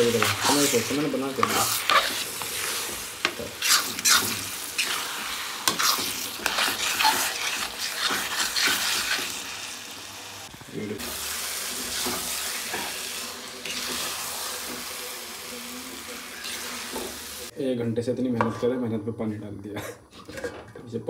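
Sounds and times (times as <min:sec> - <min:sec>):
food sizzling and crackling in pan: 0:00.0 - 0:17.5.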